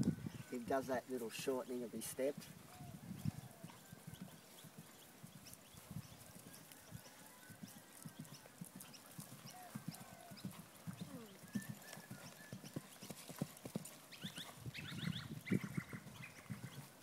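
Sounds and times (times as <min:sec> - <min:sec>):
horse hoofbeats on grass: 0:02.0 - 0:17.0.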